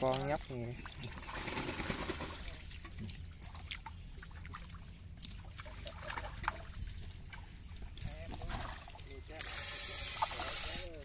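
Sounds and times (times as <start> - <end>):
water splashing and dripping: 0.0 - 11.0.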